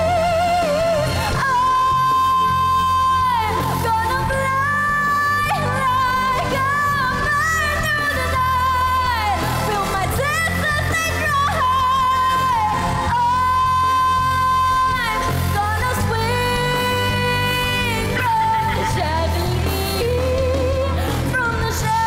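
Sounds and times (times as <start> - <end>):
backing track with bass line: 0.0 - 22.0
woman singing: 0.0 - 22.0.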